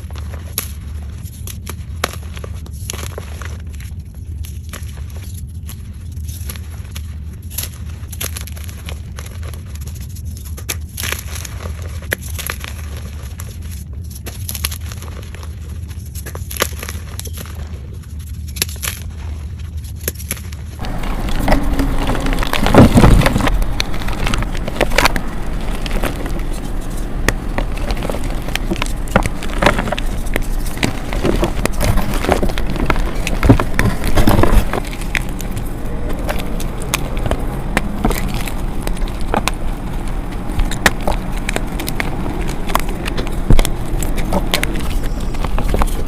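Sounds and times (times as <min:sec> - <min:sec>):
chalk being crushed: 0:00.0 - 0:46.0.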